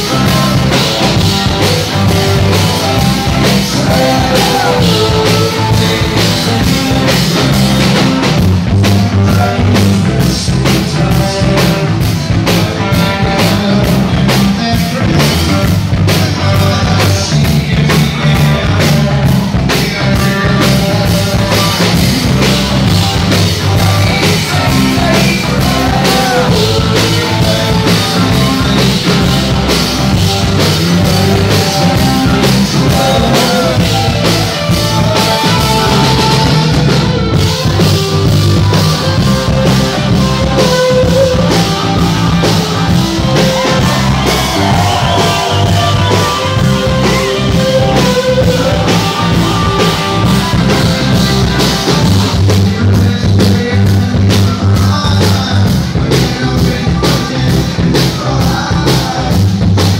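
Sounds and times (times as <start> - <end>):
driving drum kit: 0.0 - 59.9
live rock band playing: 0.0 - 59.9.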